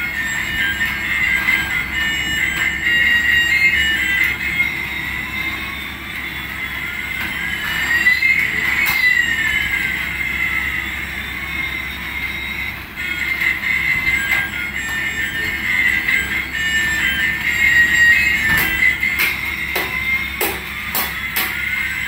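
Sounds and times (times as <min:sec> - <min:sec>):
electronic toy tune beeps: 0:00.0 - 0:22.0
toy jet whine: 0:00.0 - 0:22.0.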